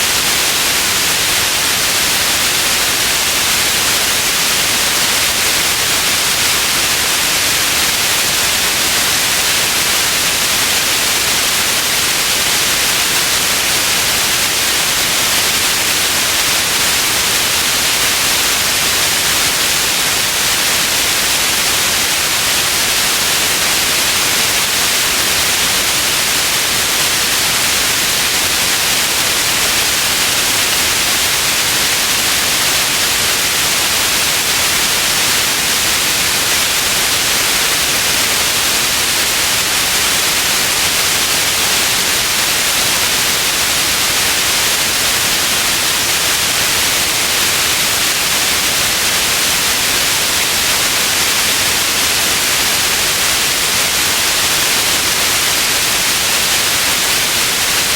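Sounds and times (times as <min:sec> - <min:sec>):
white noise hiss: 0:00.0 - 0:57.9.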